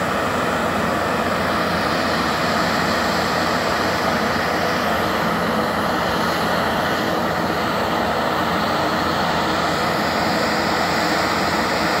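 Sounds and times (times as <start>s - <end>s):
tracked crawler engine running: 0.0s - 12.0s.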